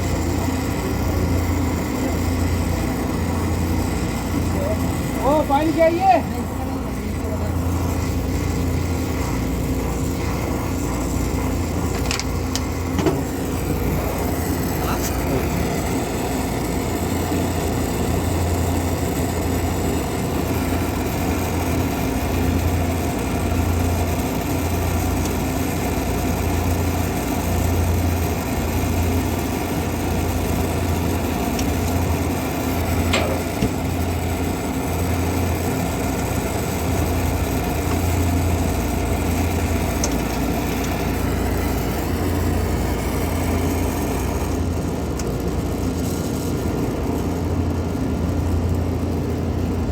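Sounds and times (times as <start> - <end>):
air conditioning hum: 0.0 - 49.9.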